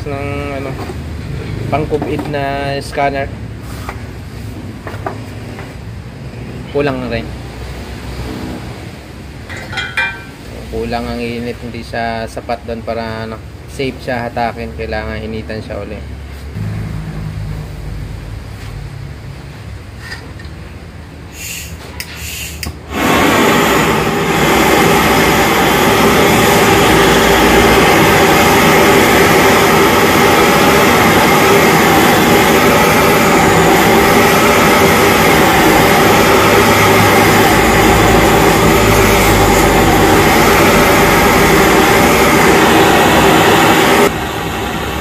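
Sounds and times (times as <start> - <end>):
gas torch burning: 0.0 - 15.8, 20.0 - 45.0.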